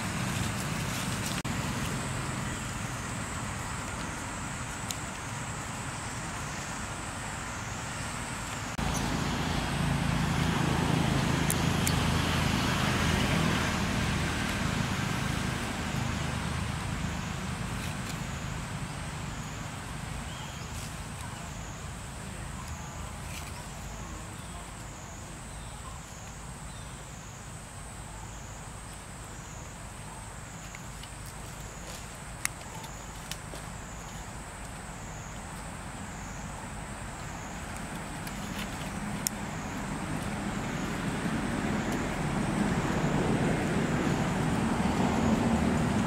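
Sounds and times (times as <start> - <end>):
vehicle engine droning: 0.0 - 25.5, 30.6 - 46.0.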